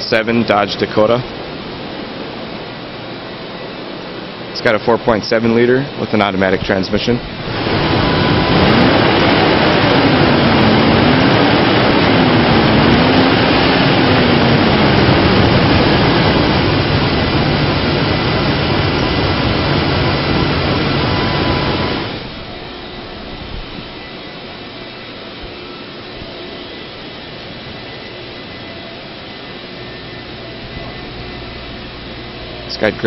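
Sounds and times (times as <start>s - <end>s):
engine running loudly: 4.7s - 33.0s.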